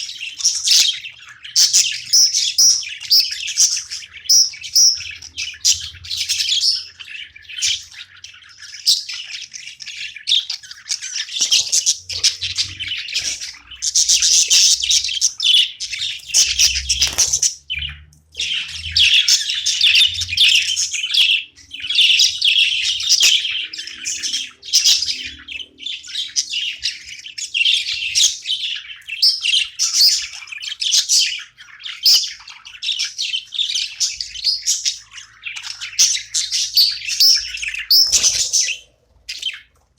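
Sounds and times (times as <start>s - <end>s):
budgerigars chirping: 0.0s - 39.8s.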